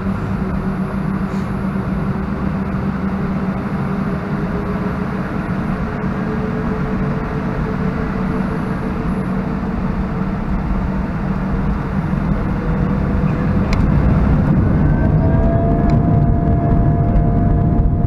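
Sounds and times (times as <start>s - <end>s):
airflow rushing: 0.0s - 18.0s
airplane engines rumbling: 0.0s - 18.0s
steady hum: 0.0s - 18.0s.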